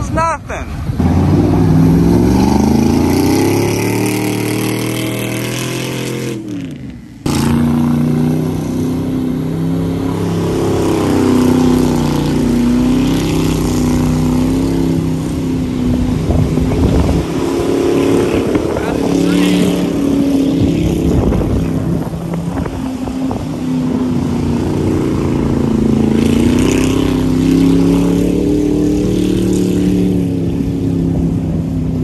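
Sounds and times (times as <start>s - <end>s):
suv engine revving hard: 1.0s - 30.3s.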